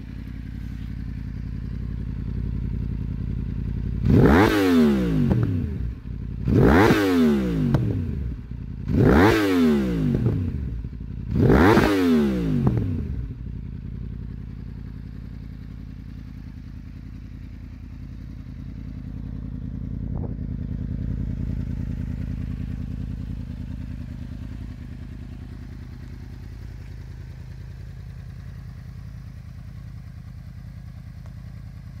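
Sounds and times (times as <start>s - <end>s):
motorcycle engine revving and idling: 0.0s - 32.0s.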